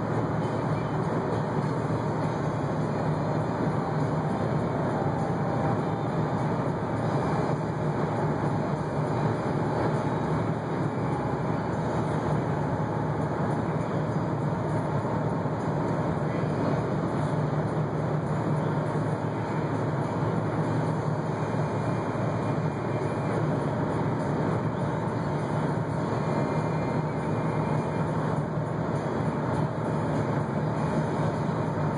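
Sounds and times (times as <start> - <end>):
car engine drone: 0.0 - 31.9
road noise: 0.0 - 31.9.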